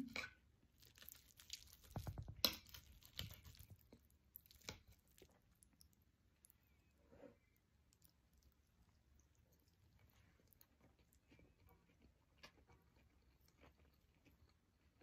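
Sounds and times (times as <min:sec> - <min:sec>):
faint chewing: 0:00.1 - 0:15.0.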